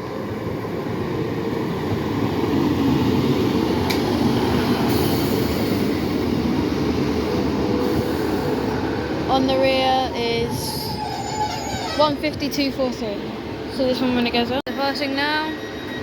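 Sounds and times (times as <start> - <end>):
diesel train engines: 0.0 - 16.0
train wheels on rails: 0.4 - 16.0.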